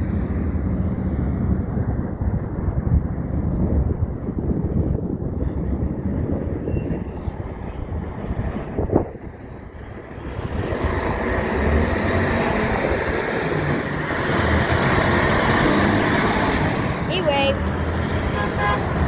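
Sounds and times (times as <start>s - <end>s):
heavy truck passing: 0.0s - 19.0s.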